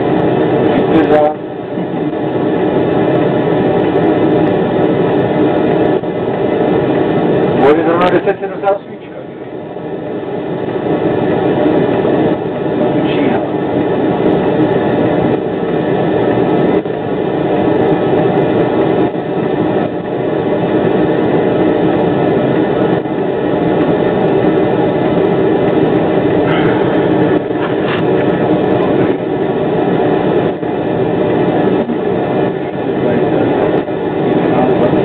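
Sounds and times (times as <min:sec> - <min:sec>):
tram running noise: 0:00.0 - 0:35.0.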